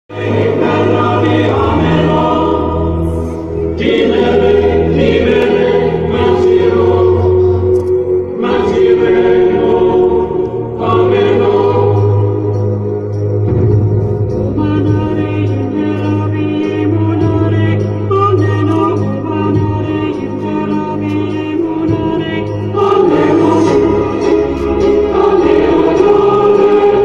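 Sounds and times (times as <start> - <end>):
choir singing: 0.1 - 27.0.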